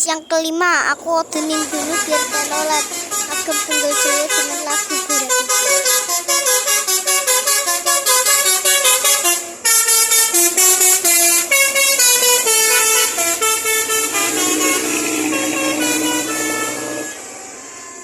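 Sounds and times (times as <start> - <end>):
musical air horns melody: 1.6 - 18.0.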